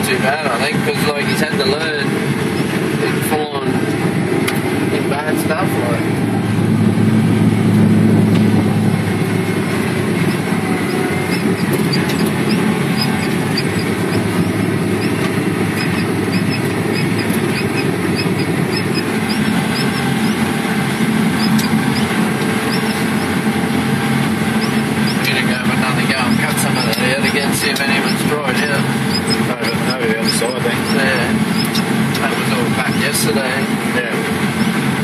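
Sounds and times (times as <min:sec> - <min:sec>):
harvester engine hum: 0:00.0 - 0:35.0
machinery noise: 0:00.0 - 0:35.0.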